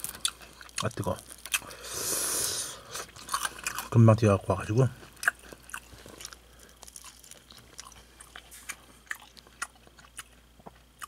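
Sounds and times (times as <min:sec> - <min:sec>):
person chewing crunchy food: 0:00.0 - 0:11.0.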